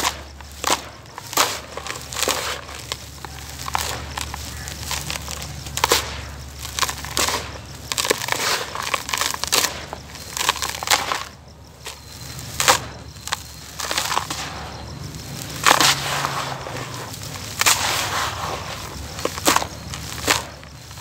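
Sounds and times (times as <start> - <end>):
dry dirt crunching by hand: 0.0 - 21.0
loud dirt crunch: 0.0 - 21.0.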